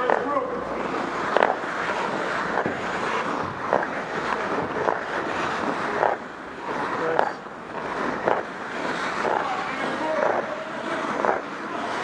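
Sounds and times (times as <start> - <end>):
skates scraping on ice: 0.0 - 12.0.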